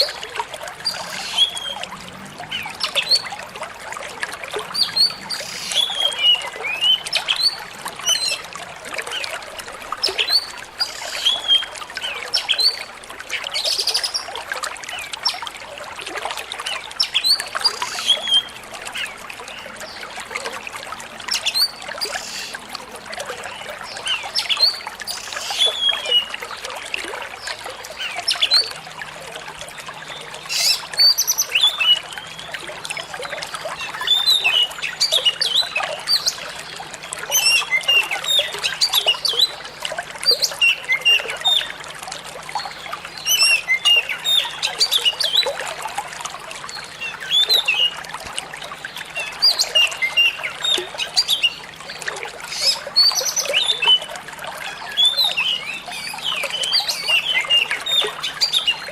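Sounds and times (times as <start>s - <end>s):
flowing trickling water: 0.0s - 58.9s.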